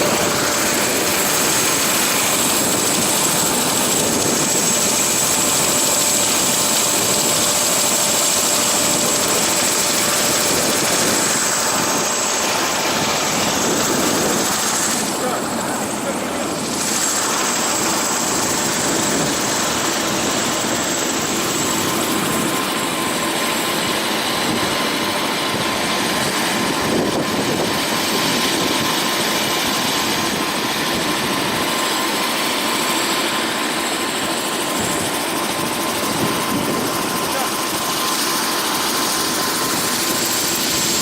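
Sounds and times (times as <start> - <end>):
helicopter engine and rotor: 0.0 - 41.0.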